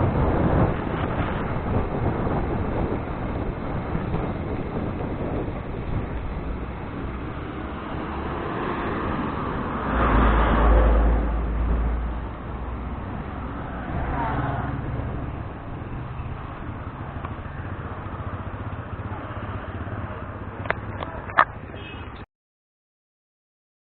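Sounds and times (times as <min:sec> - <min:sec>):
motor vehicle passing rumble: 0:00.0 - 0:21.8
wind and road noise: 0:00.0 - 0:22.3.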